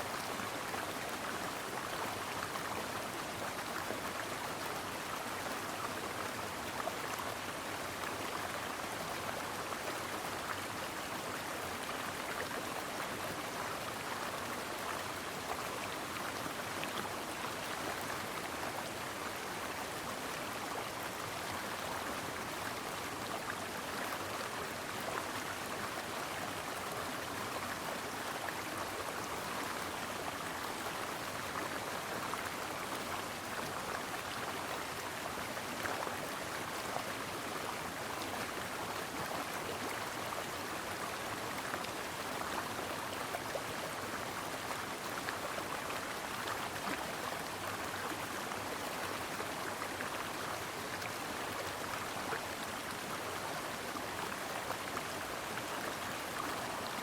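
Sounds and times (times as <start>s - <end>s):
brook water flowing: 0.0s - 57.0s.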